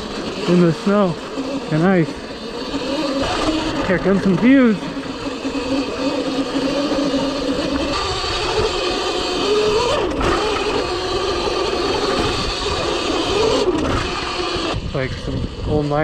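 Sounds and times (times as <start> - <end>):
electric motor whining: 0.0 - 16.0
tyre and wind noise: 0.0 - 16.0.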